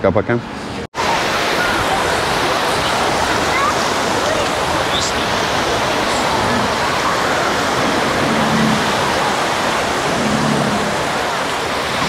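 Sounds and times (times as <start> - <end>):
small waves washing ashore: 1.0 - 12.0.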